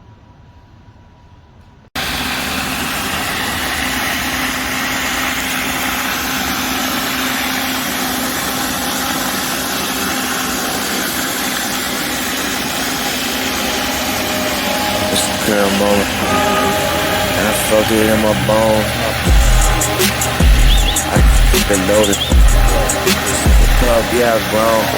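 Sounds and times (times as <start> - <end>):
engine hum: 2.0 - 24.9
high-pressure water spray hissing: 2.0 - 24.9.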